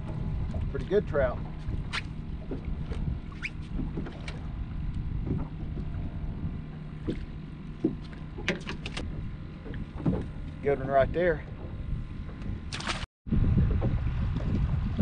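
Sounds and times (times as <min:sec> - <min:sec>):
water lapping against boat hull: 0:00.0 - 0:15.0
wind rumbling on microphone: 0:00.0 - 0:15.0.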